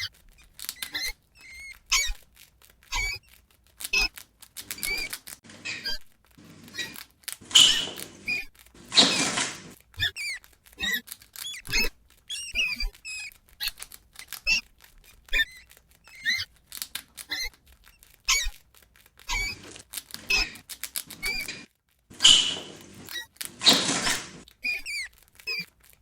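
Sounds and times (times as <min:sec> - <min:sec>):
rats squeaking: 0:00.0 - 0:26.0.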